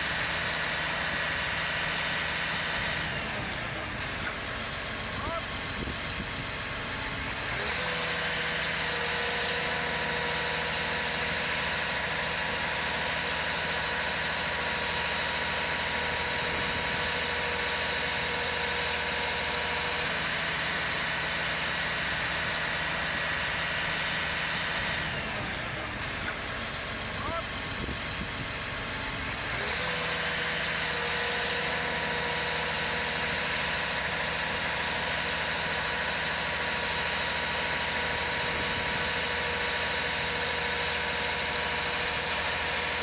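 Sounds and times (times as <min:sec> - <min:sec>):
heavy truck engine revving: 0:00.0 - 0:43.0.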